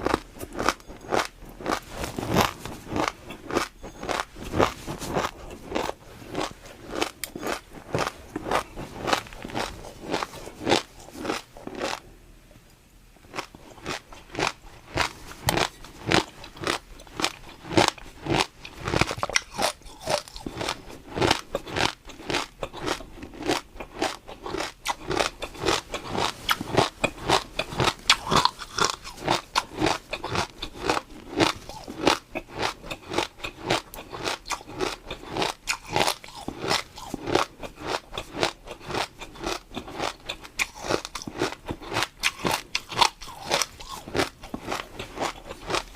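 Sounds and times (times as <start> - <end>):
chewing crunchy food: 0.0 - 12.1, 13.3 - 45.9.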